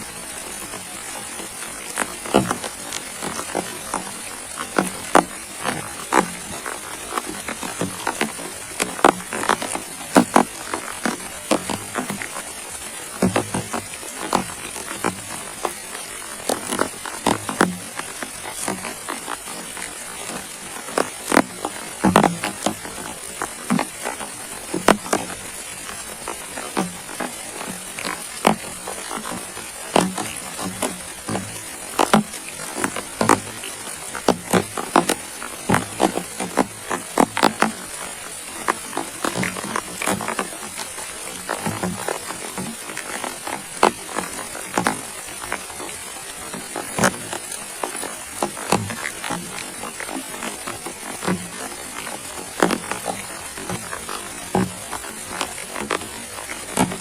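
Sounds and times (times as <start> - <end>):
heavy raindrops knocking: 0.0 - 57.0
rain hiss: 0.0 - 57.0
water drops tapping on tarp: 0.0 - 57.0.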